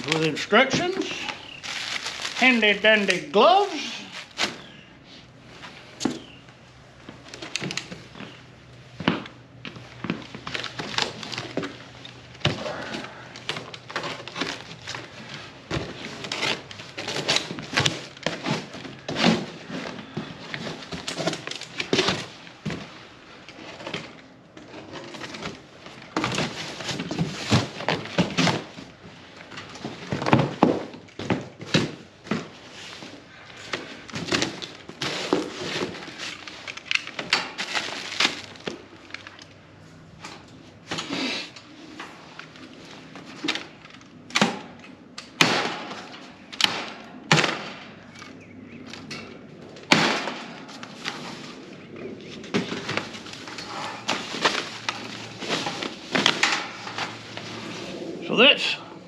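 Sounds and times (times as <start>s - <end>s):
cardboard and wrap rustling: 0.0s - 44.3s, 50.4s - 58.3s.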